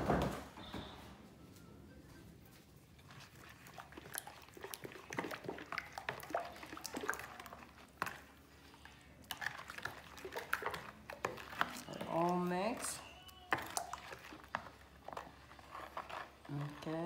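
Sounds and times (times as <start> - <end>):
spoon stirring thick batter: 2.5 - 17.0.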